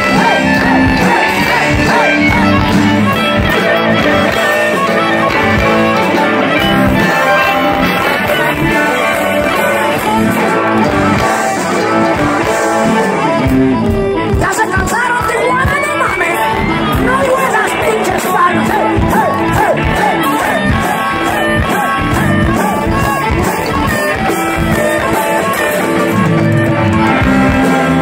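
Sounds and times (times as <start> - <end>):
bass guitar: 0.0 - 28.0
drums: 0.0 - 28.0
electric guitar: 0.0 - 28.0.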